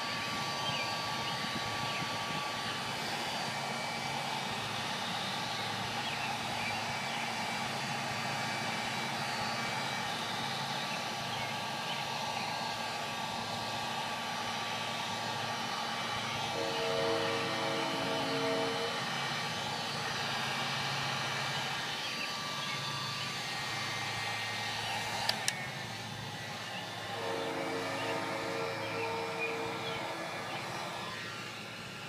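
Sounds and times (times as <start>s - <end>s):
electric heat gun blowing: 0.0s - 32.0s.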